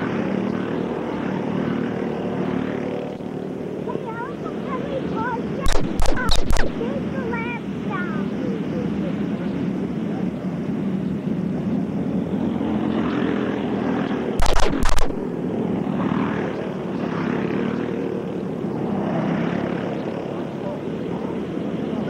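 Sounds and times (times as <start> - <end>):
go-kart engines running: 0.0 - 14.4, 15.1 - 22.0.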